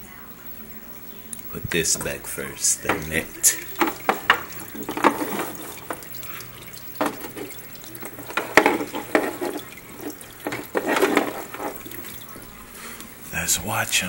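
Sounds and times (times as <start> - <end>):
aquarium water splashing: 0.0 - 14.0.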